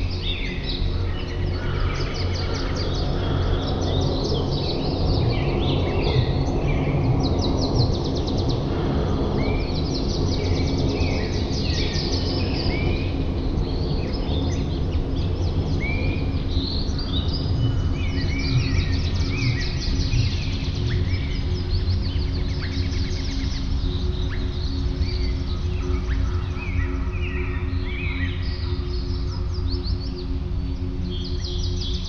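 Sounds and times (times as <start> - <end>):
birds chirping and singing: 0.0 - 32.0
low background rush: 0.0 - 32.0.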